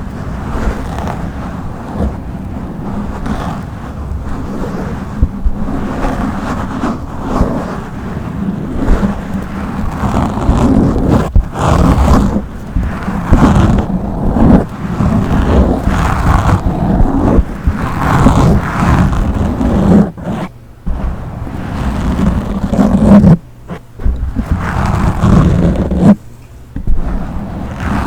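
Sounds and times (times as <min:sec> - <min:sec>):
fingers scratching on microphone: 0:00.0 - 0:28.0.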